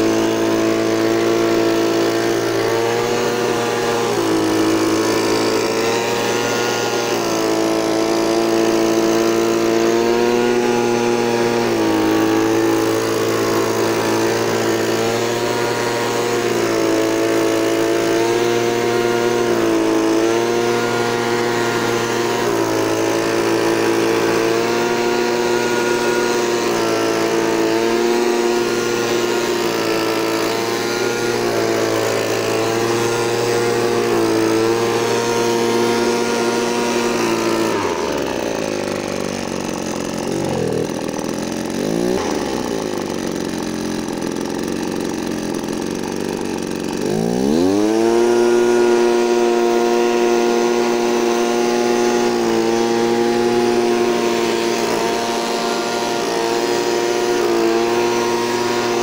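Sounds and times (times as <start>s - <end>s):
leaf blower engine revving: 0.0s - 59.0s.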